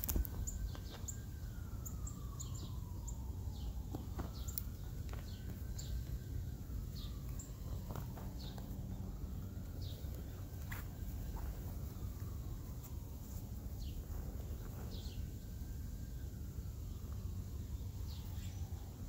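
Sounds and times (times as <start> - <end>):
faint siren wailing: 0.0 - 19.0
small birds chirping: 0.0 - 19.0
steady low rumble: 0.0 - 19.0.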